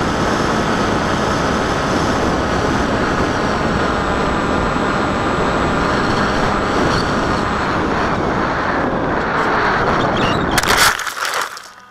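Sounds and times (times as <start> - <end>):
wind rush on microphone: 0.0 - 10.9
electric motor and propeller: 0.0 - 11.9.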